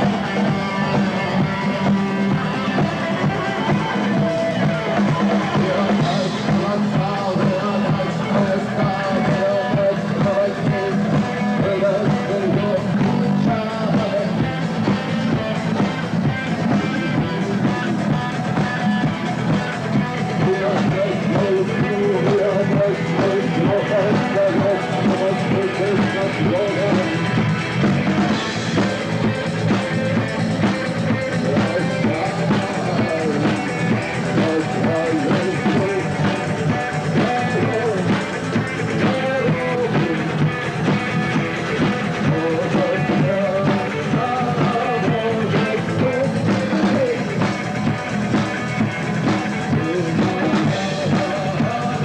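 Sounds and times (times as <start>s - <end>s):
drum kit beat: 0.0s - 52.0s
electric guitars: 0.0s - 52.0s
live rock band playing: 0.0s - 52.0s.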